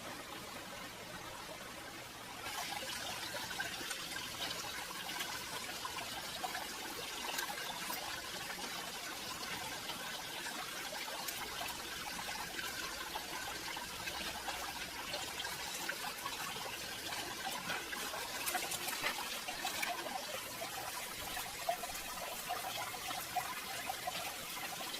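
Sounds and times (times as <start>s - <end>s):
running water: 0.0s - 24.9s.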